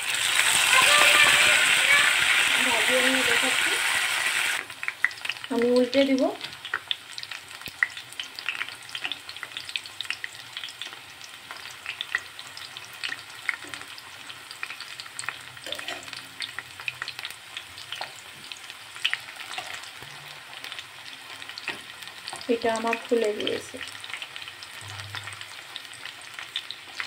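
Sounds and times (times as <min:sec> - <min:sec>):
fritters sizzling in oil: 0:00.0 - 0:27.0.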